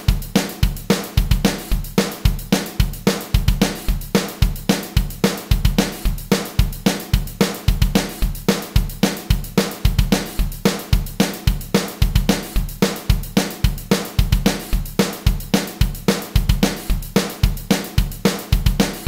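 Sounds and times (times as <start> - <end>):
fast drum-kit loop: 0.0 - 19.0.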